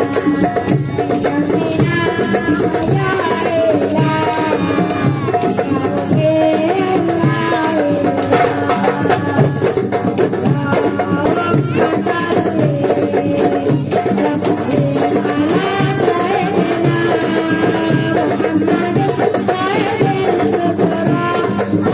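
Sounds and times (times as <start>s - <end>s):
group singing: 0.0s - 21.9s
hand drums beating: 0.0s - 21.9s
tambourine: 0.0s - 21.9s.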